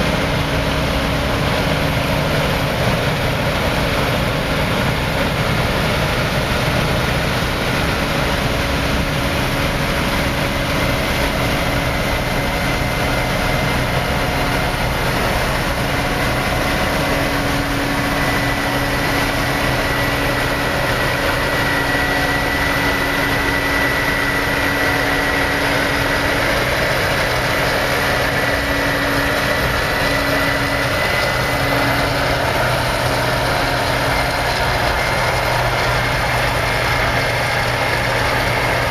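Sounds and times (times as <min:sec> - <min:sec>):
combine harvester engine drone: 0:00.0 - 0:38.9
steady high whine: 0:00.0 - 0:38.9.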